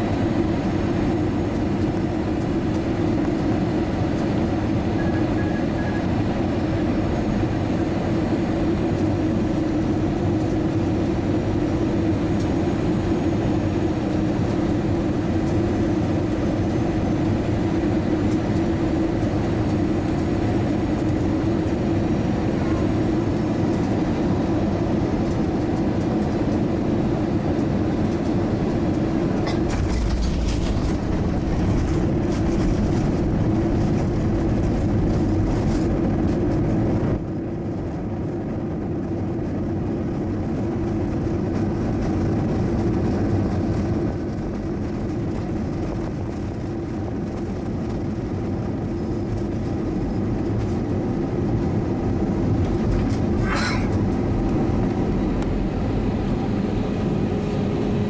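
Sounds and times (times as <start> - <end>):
airplane cabin engine noise: 0.0 - 58.0
rumbling and rattling on runway: 0.0 - 58.0.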